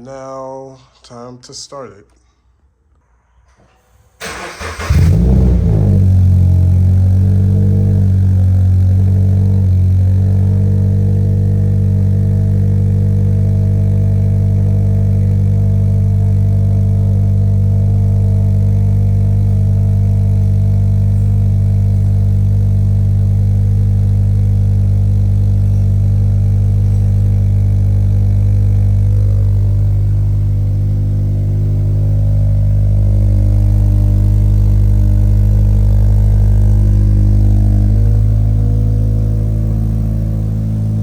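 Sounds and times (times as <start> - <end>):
car engine idling: 4.2 - 41.0.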